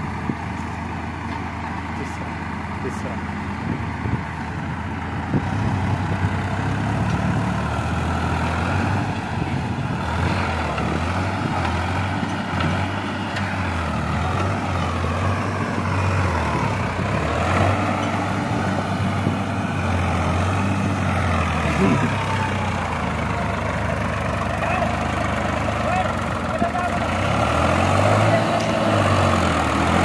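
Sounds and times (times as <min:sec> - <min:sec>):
tractor diesel engine labouring: 0:00.0 - 0:30.0.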